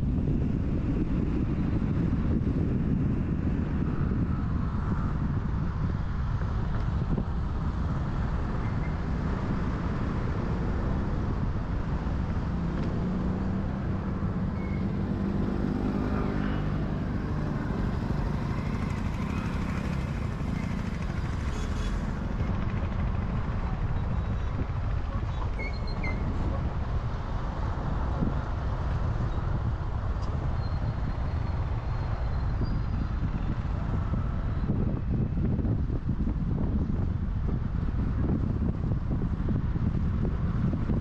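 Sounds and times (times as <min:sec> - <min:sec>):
road and wind noise: 0:00.0 - 0:41.0.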